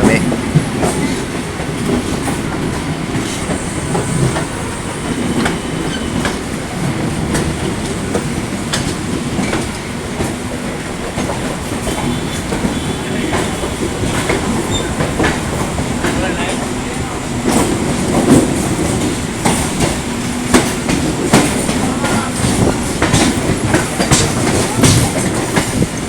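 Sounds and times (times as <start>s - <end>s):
train rumble: 0.0s - 26.0s
train wheels clattering: 0.0s - 26.0s.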